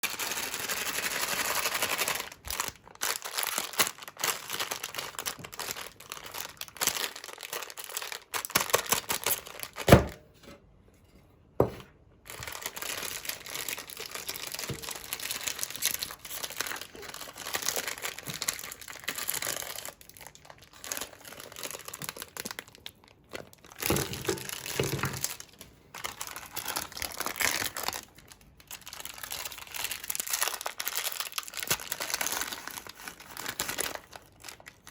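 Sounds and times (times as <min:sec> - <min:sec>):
plastic packaging crinkling: 0:00.0 - 0:10.2, 0:12.2 - 0:34.9.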